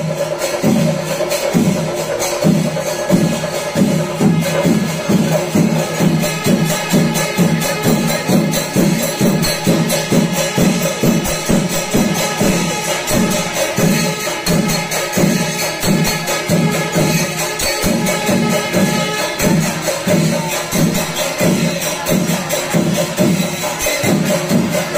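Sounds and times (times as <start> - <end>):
cymbals clashing: 0.0 - 24.9
drums beating driving rhythm: 0.0 - 24.9.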